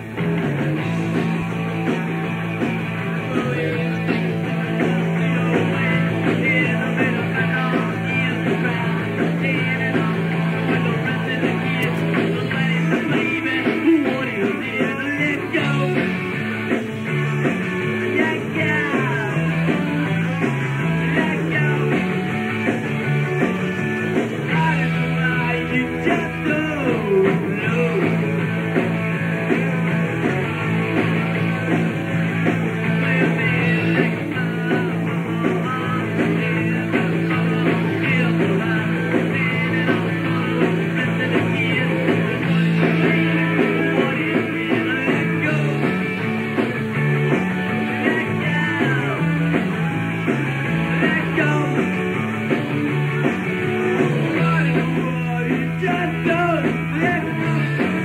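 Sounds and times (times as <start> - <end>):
live punk rock band: 0.0 - 58.0.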